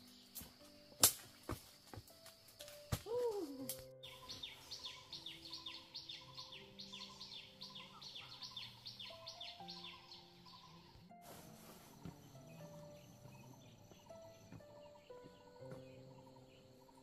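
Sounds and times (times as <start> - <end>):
rising and falling bird call: 3.0 - 17.0.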